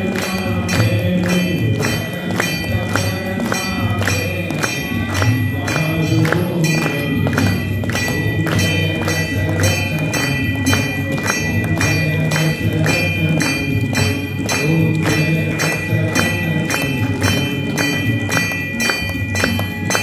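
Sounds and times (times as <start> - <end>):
temple bell ringing: 0.0 - 20.0.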